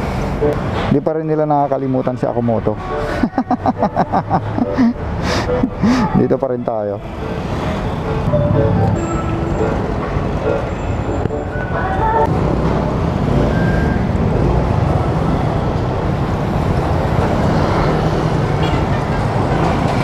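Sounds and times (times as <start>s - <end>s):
passing traffic: 0.0s - 20.0s.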